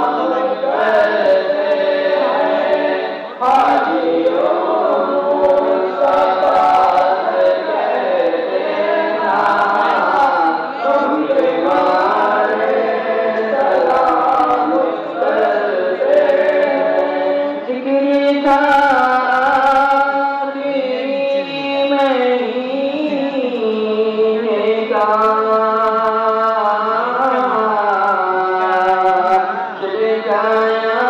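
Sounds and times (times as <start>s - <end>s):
group singing chant-like: 0.0s - 31.0s.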